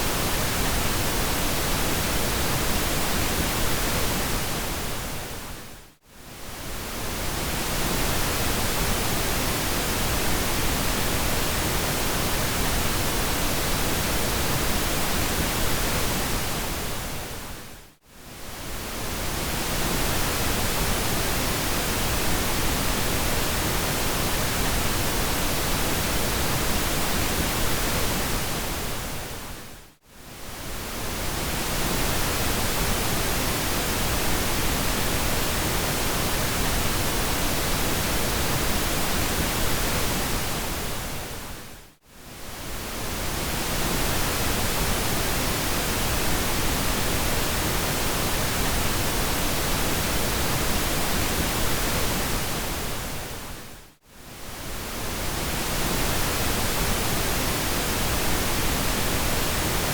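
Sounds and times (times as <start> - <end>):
pink noise hiss: 6.3 - 59.9.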